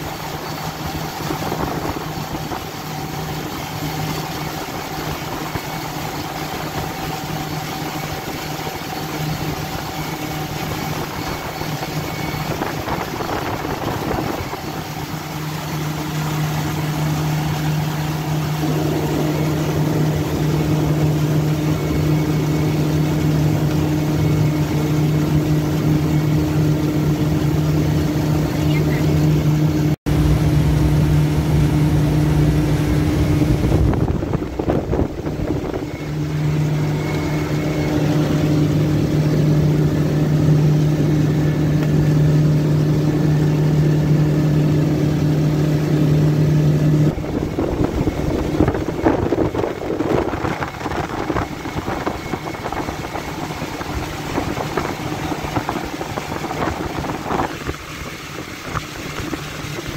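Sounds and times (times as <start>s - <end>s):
motorboat engine running: 0.0s - 59.9s
water and wind rushing: 0.0s - 59.9s
water slapping hull: 0.0s - 59.9s.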